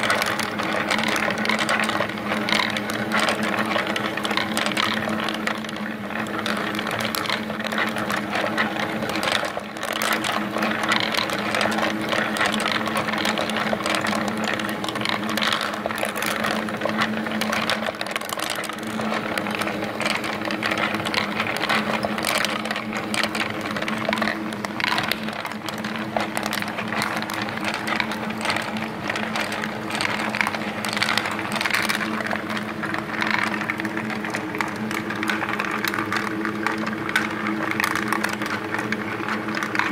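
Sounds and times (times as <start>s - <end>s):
ball bearings clicking on wooden tracks: 0.0s - 39.9s
motor and gear hum: 0.0s - 39.9s.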